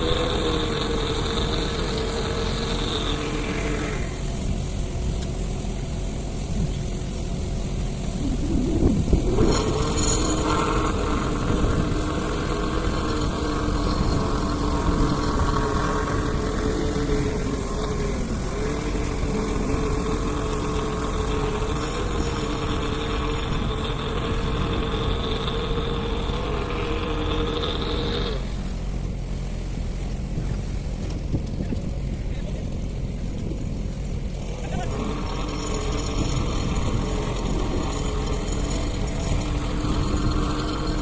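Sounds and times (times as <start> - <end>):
engine running: 0.0 - 41.0
steady hum: 0.0 - 41.0.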